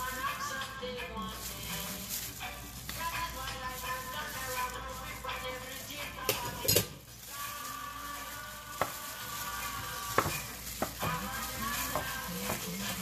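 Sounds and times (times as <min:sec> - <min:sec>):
hand mixing chicken in wet marinade: 0:00.0 - 0:13.0.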